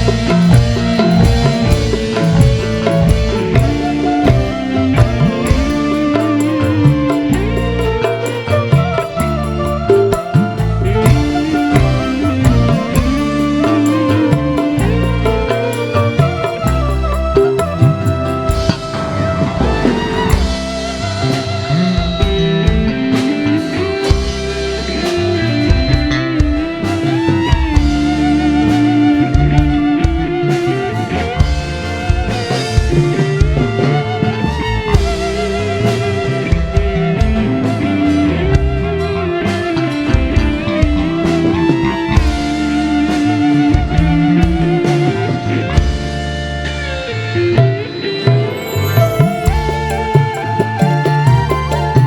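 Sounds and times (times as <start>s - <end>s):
instrumental band music over pa: 0.0s - 52.0s.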